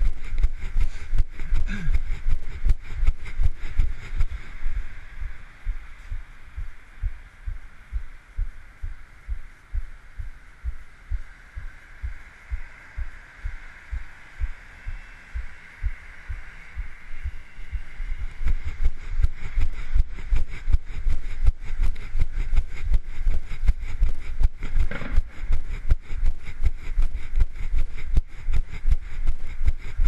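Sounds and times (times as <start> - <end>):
faint hiss: 0.0 - 30.0.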